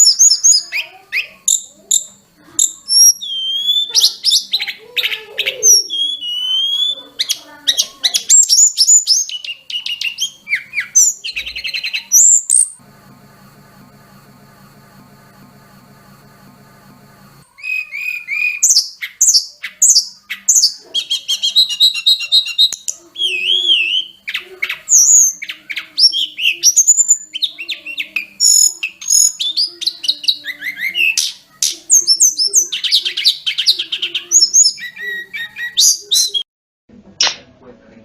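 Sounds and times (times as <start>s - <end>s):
songbird singing: 0.0s - 12.8s, 17.5s - 36.4s
faint hum: 0.0s - 35.8s.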